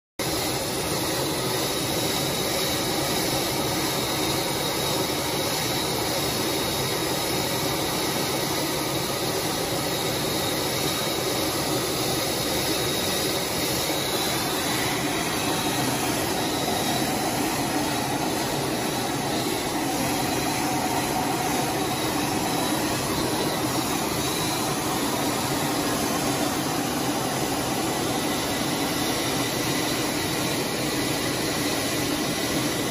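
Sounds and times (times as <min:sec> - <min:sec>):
faint high whine: 0:00.3 - 0:32.9
jet engine and rushing air: 0:03.9 - 0:32.9.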